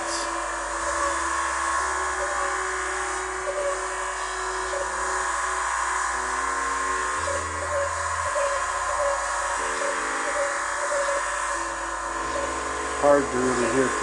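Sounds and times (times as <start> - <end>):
buzzy synthesizer drone: 0.0 - 14.0.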